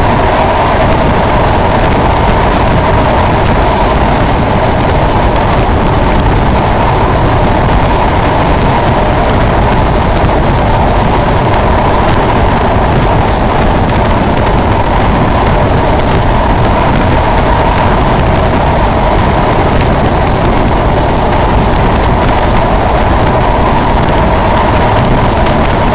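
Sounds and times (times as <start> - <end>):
train running noise: 0.0 - 25.9
wind buffeting microphone: 0.0 - 25.9.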